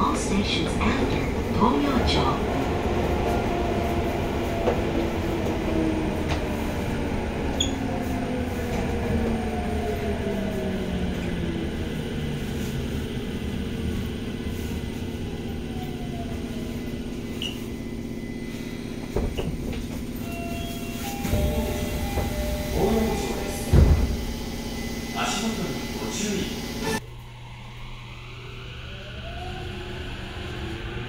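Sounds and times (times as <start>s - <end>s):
train wheels rumbling on rail: 0.0s - 27.1s.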